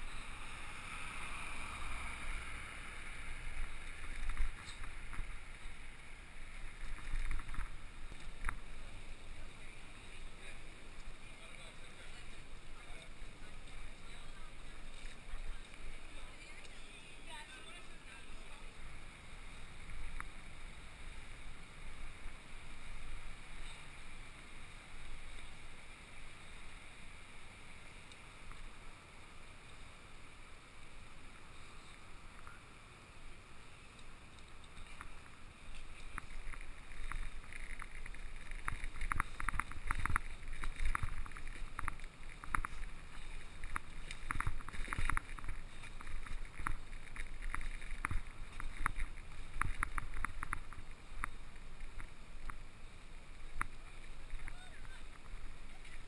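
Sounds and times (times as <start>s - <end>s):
low bicycle rumble: 0.0s - 56.0s.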